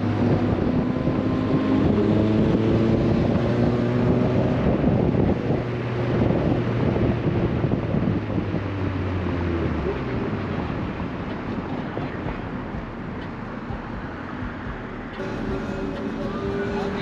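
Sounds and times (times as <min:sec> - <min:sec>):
low engine drone: 0:00.0 - 0:17.0
road noise: 0:00.0 - 0:17.0
wind buffeting microphone: 0:00.0 - 0:17.0.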